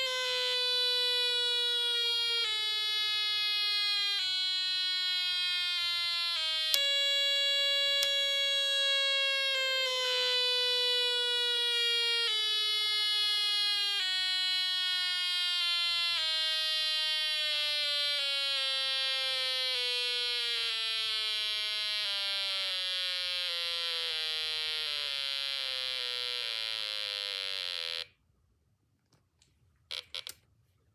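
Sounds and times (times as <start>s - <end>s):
electronic buzzy doorbell tone: 0.0s - 14.8s, 17.0s - 28.1s.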